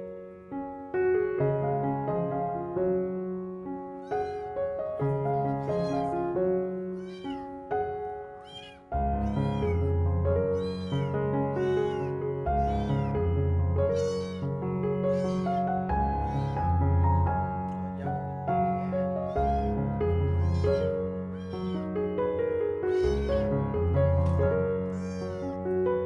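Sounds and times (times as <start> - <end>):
piano music: 0.0 - 26.0
kitten meowing: 4.0 - 22.0, 22.8 - 25.8.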